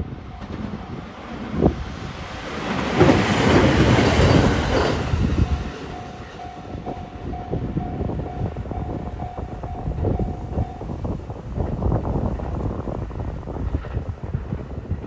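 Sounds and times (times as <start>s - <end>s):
train wheels rumbling and clacking: 0.0s - 15.0s.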